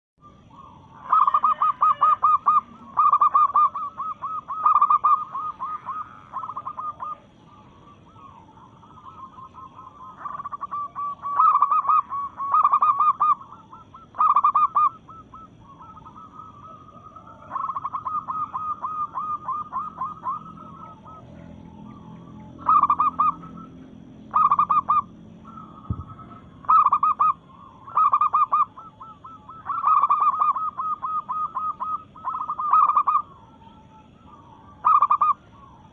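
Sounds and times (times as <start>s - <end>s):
dove staccato cooing: 0.2s - 35.9s.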